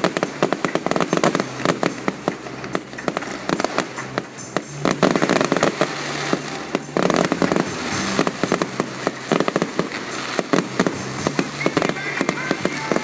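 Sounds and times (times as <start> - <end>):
low hum: 0.0 - 11.7
fireworks bangs and crackling: 0.0 - 13.0.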